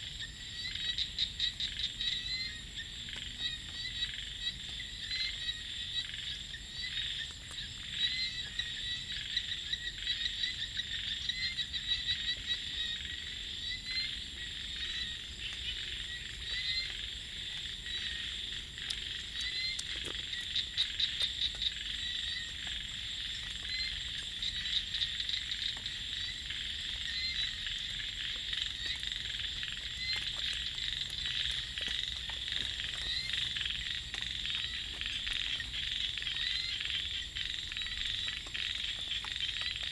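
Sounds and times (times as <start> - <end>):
frogs calling: 0.0 - 39.9
insect drone: 0.0 - 39.9.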